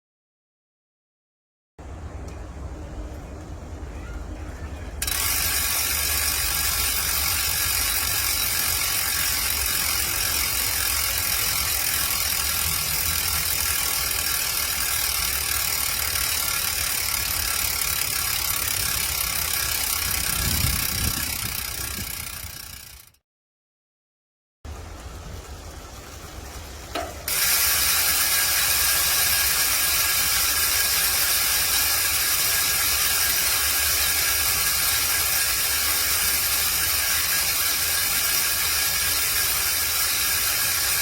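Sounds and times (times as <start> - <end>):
bicycle hub freewheel buzz: 5.0 - 23.2, 24.7 - 41.0.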